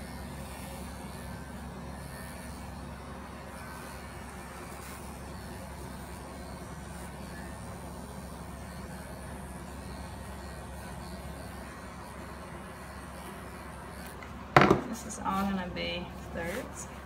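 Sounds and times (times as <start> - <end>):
electric clipper humming: 0.0 - 17.0.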